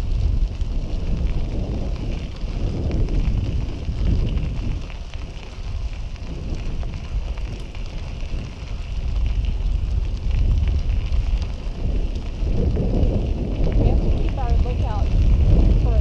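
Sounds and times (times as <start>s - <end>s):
bicycle tyres on pavement: 0.0s - 16.0s
wind rushing over microphone: 0.0s - 16.0s.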